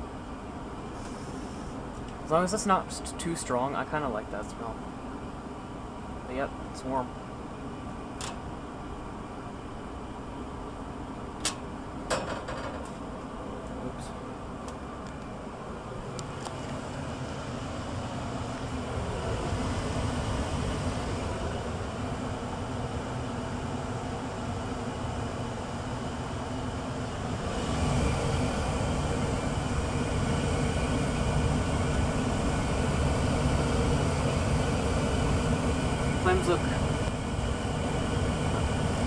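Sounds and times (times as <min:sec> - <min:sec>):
gas furnace burners humming: 0:00.0 - 0:39.0.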